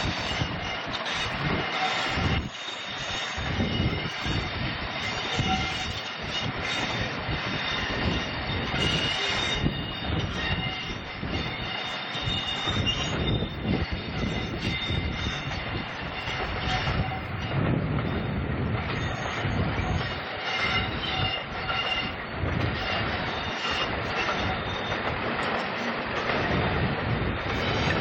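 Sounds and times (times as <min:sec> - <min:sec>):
diesel train running: 0:00.0 - 0:28.0
train wheels squealing: 0:00.0 - 0:28.0.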